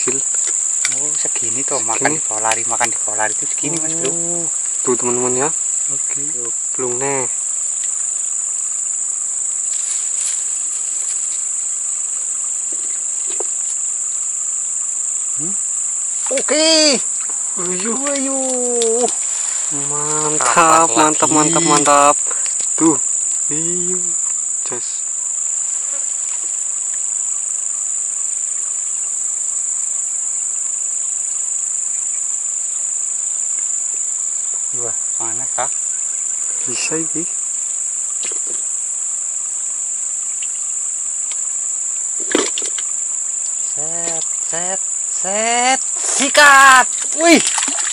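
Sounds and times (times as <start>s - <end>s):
shrill insect chorus: 0.0s - 47.9s.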